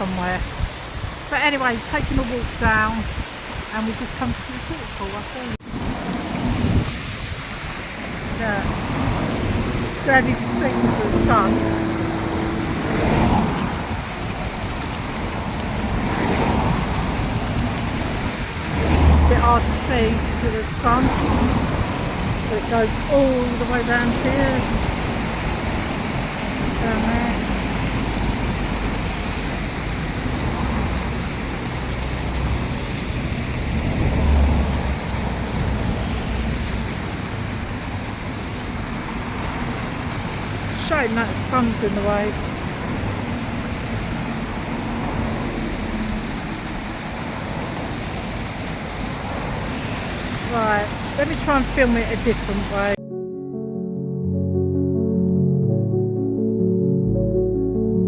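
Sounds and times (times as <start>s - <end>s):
waterfall rushing: 0.0s - 53.0s
wind gusting on microphone: 0.0s - 53.0s.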